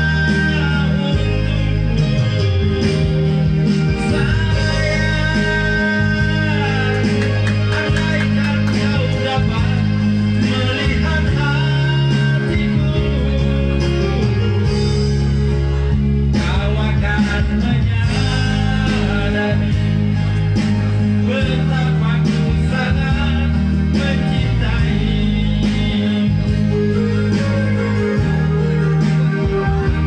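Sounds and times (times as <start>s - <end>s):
man singing into a microphone: 0.0s - 15.2s, 16.2s - 30.0s
amplified backing music: 0.0s - 30.0s.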